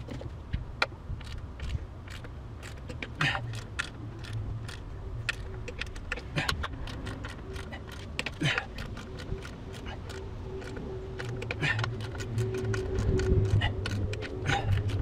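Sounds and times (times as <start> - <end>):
torque wrench clicking and rattling: 0.8 - 15.0.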